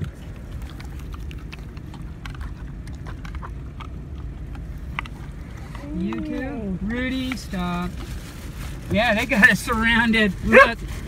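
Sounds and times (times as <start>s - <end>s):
horses chewing apples: 0.0s - 11.0s
steady low rumble: 0.0s - 11.0s.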